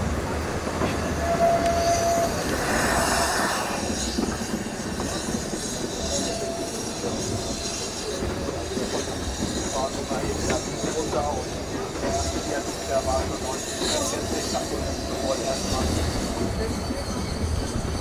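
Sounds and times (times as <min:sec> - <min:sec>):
train coaches rumbling: 0:00.0 - 0:18.0
train wheels squealing: 0:00.7 - 0:18.0.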